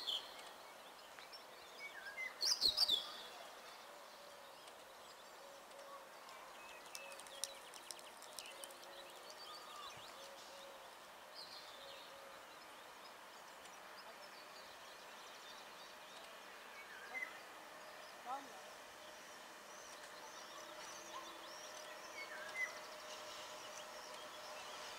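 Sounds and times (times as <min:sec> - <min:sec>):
birds chirping and trilling: 0:00.0 - 0:24.9
outdoor background hiss: 0:00.0 - 0:24.9.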